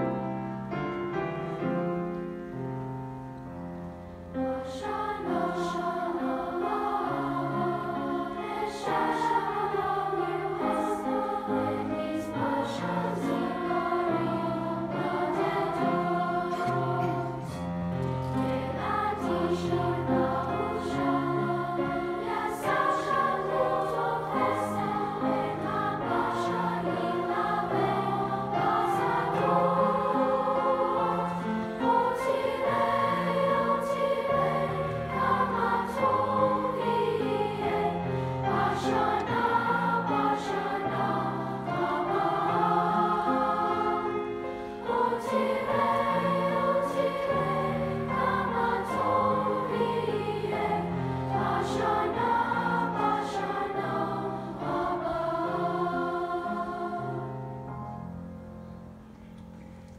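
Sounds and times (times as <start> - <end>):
children's choir singing: 4.3 - 59.0.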